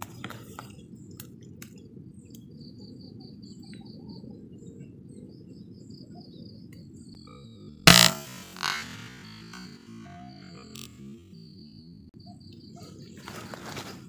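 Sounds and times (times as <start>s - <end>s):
rapid high-pitched chirping: 1.8s - 13.6s.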